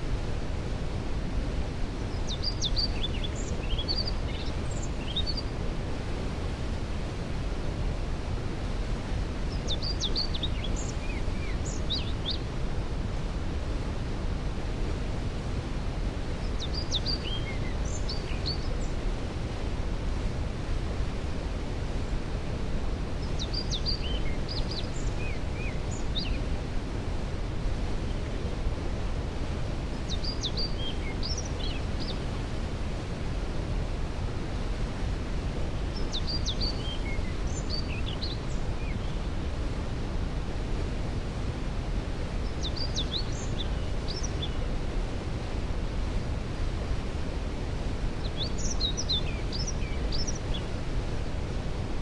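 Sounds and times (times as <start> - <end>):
distant waterfall rushing: 0.0 - 52.0.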